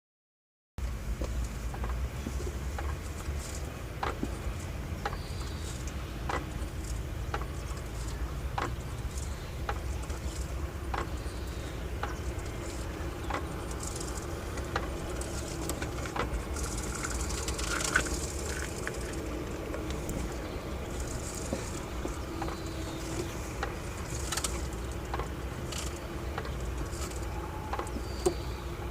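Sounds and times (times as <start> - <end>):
sharp clack in car drivetrain: 1.2 - 28.9.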